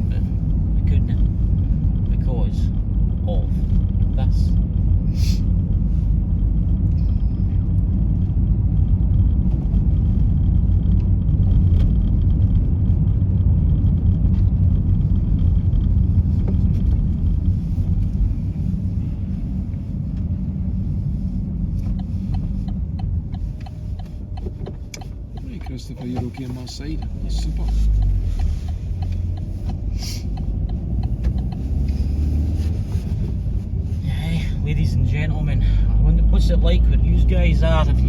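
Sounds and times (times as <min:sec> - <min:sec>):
vehicle interior engine and road rumble: 0:00.0 - 0:38.0.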